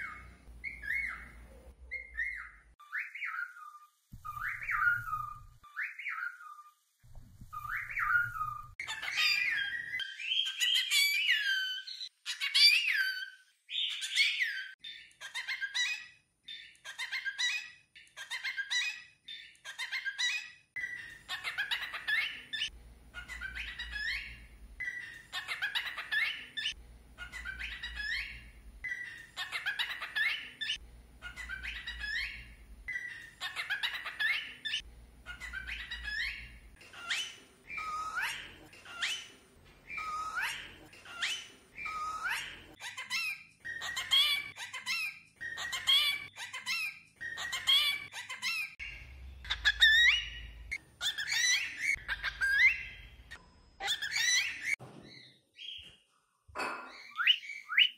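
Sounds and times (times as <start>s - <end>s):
cockatiel chattering and whistling: 0.0s - 6.6s, 7.5s - 54.8s.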